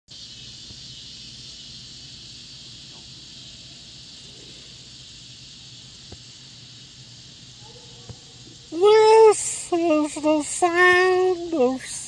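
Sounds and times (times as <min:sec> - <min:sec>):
insects chorusing: 0:00.1 - 0:12.0.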